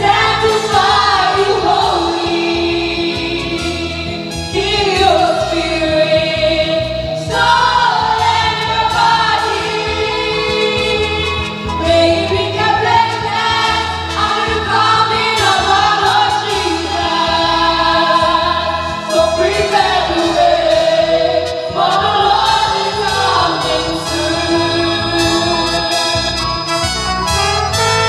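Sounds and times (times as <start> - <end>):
children's choir singing: 0.0 - 26.4
instrumental backing with bass: 0.0 - 28.0.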